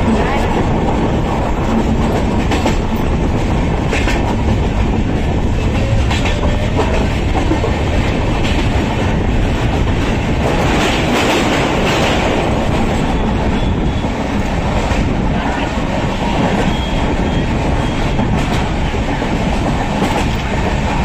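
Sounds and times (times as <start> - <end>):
train wheels rumbling on rail: 0.0 - 21.0
wheels clacking over rail joints: 0.0 - 21.0.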